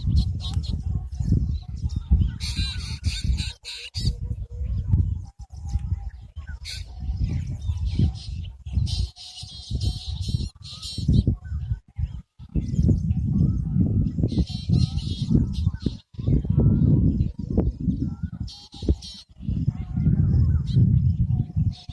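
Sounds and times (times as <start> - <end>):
birds chirping: 0.0 - 5.0, 5.6 - 21.9.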